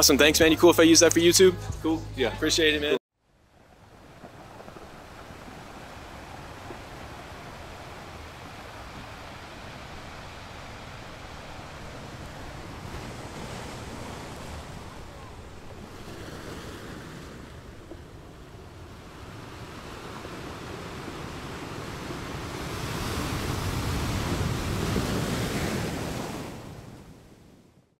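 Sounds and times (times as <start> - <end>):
ocean waves breaking: 3.6 - 27.7.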